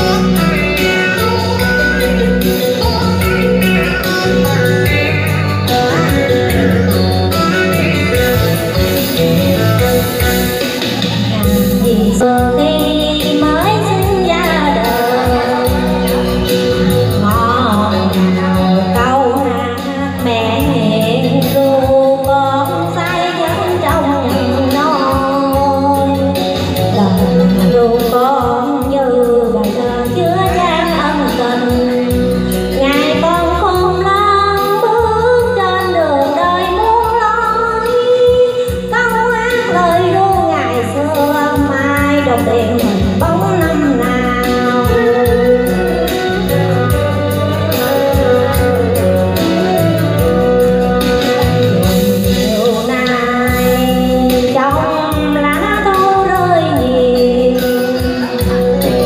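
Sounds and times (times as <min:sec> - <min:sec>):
backing music with steady beat: 0:00.0 - 0:59.0
woman singing into microphone: 0:00.0 - 0:59.0.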